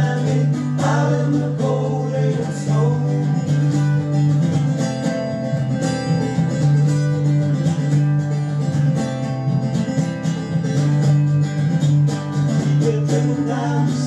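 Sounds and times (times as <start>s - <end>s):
plucked string lines: 0.0s - 14.0s
strummed acoustic guitar: 0.0s - 14.0s.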